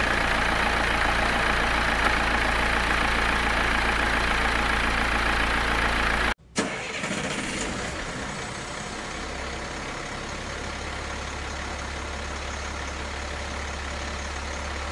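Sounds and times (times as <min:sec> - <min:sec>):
truck engine starting and revving: 0:00.0 - 0:13.9.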